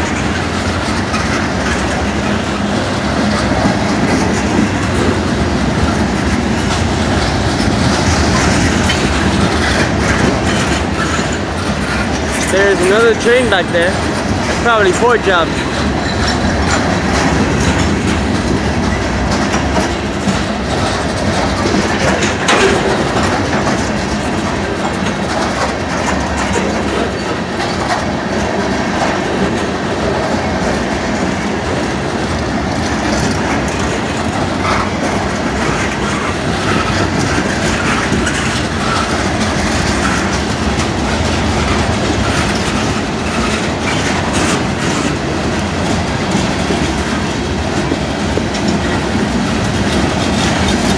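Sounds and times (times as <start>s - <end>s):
clickety-clack over rail joints: 0.0s - 50.9s
train wheels rumbling on rails: 0.0s - 50.9s.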